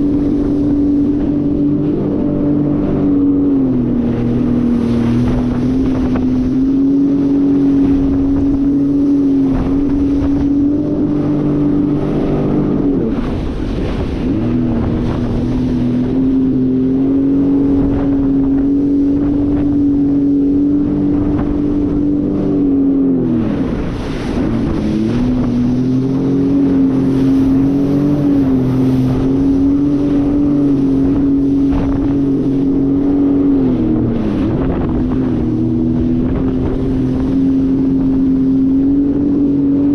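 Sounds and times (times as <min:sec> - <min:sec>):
jet ski engine running: 0:00.0 - 0:39.9
wind buffeting microphone: 0:00.0 - 0:39.9.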